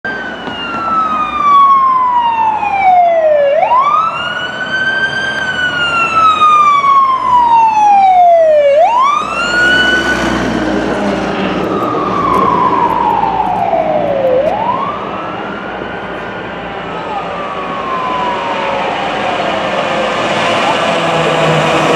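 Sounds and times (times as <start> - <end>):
fire truck siren wailing: 0.0 - 21.9
truck engine rumbling: 0.0 - 21.9.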